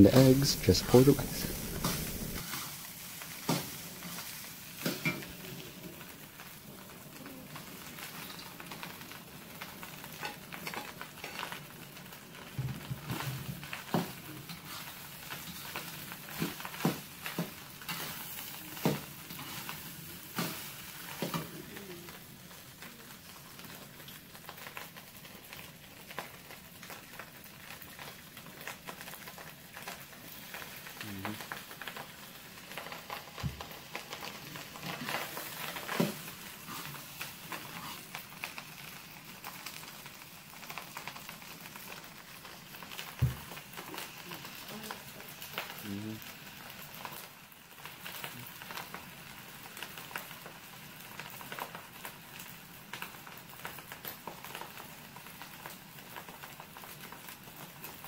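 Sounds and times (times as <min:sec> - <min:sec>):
rice sizzling in a wok: 0:00.0 - 0:58.0.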